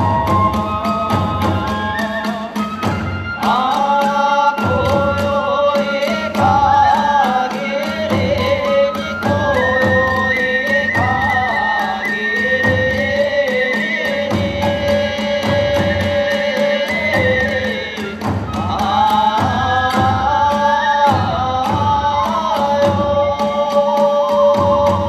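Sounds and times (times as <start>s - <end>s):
taiko drum beats: 0.0s - 25.0s.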